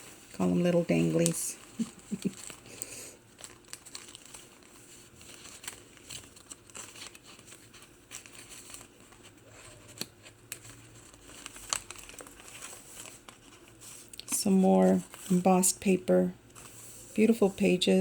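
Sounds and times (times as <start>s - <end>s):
paper pages rustling: 0.0s - 17.8s.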